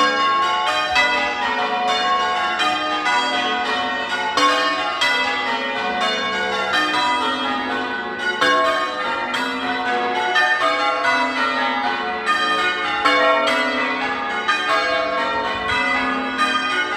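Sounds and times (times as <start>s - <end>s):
church tower bells change ringing: 0.0s - 16.9s.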